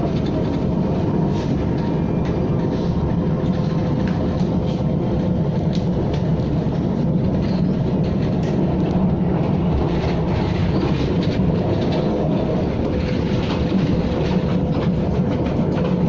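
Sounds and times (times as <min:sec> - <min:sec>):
electric train rumbling: 0:00.0 - 0:16.0
wheels clicking over rails: 0:00.0 - 0:16.0.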